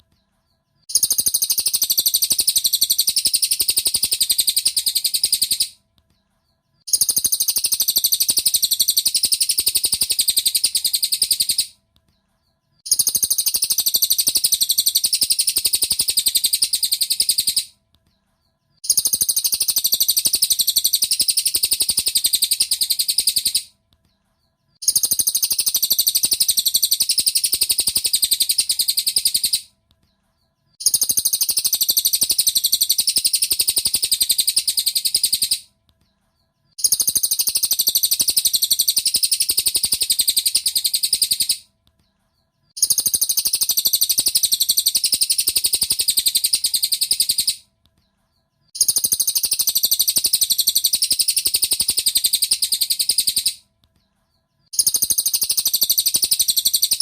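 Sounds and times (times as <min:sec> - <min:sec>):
rapid high bird chirping: 0:00.0 - 0:57.0.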